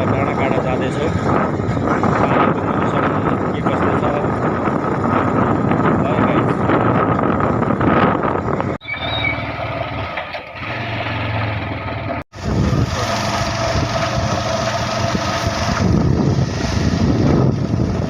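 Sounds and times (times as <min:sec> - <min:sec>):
wind noise: 0:00.0 - 0:09.5, 0:12.3 - 0:18.0
vehicle engine running: 0:00.0 - 0:18.0.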